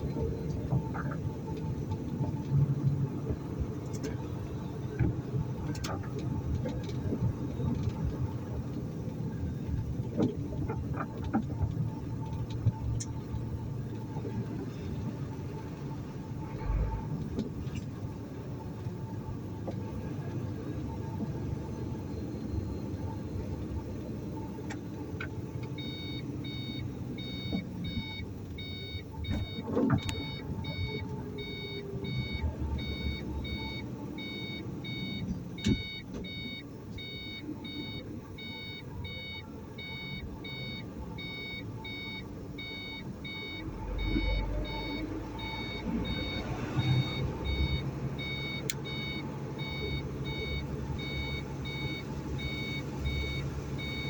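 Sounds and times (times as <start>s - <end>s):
engine rumbling: 0.0s - 54.0s.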